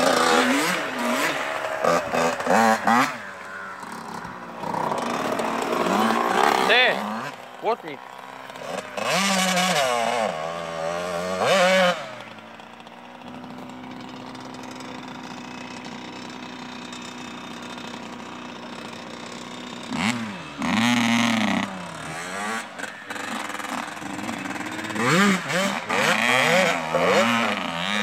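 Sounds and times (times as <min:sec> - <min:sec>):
motocross bikes revving: 0:00.0 - 0:28.0.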